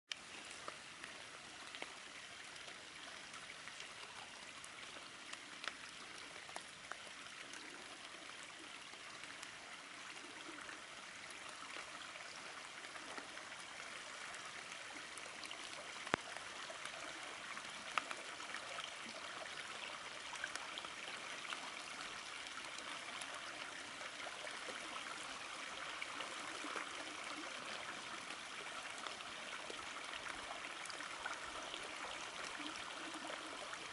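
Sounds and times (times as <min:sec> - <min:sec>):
creek water trickling over gravel: 0:00.1 - 0:33.9.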